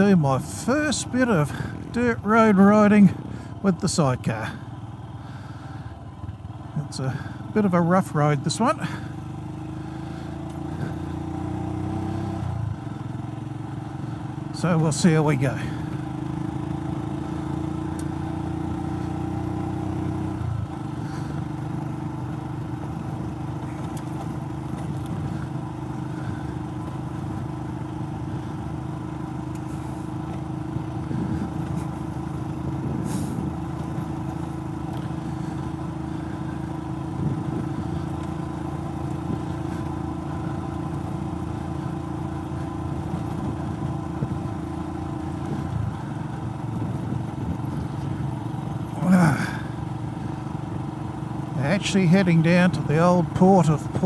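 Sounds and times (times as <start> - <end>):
motorcycle engine running: 0.0 - 54.0
tyres on gravel road: 0.0 - 54.0.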